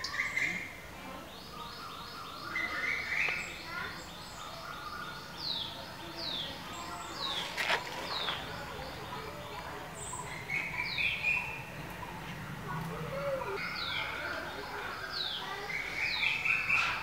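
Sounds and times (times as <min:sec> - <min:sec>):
birds whistling and warbling: 0:00.0 - 0:17.0.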